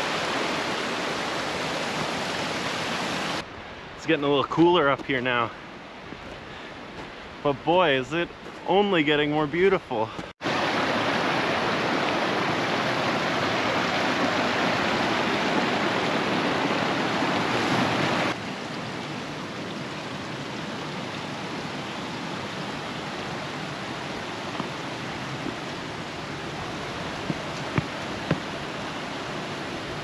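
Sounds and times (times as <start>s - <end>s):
mountain stream rushing: 0.0s - 7.2s, 9.9s - 30.0s.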